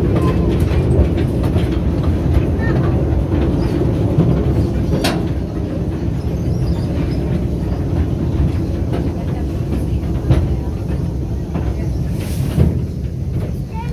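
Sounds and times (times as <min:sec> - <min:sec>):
train carriage rumble: 0:00.0 - 0:13.9.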